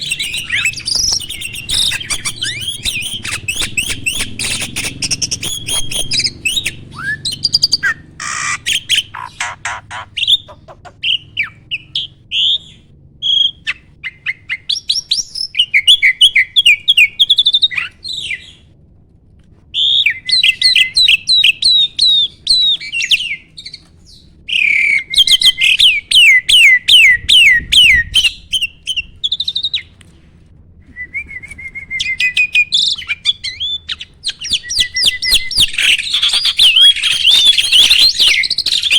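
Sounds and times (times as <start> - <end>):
starling singing trills and whistles: 0.0 - 18.6, 19.8 - 29.9, 31.3 - 38.9.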